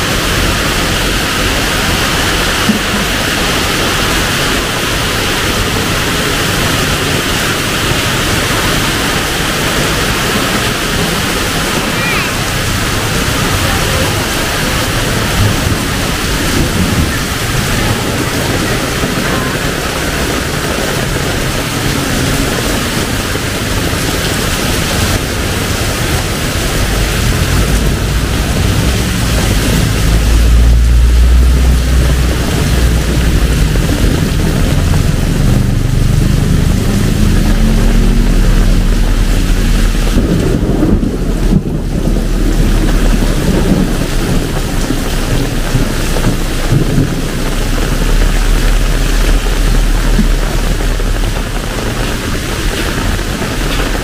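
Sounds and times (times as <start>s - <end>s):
heavy rain downpour: 0.0s - 54.0s
low rumble: 0.0s - 54.0s
wind buffeting microphone: 0.0s - 54.0s.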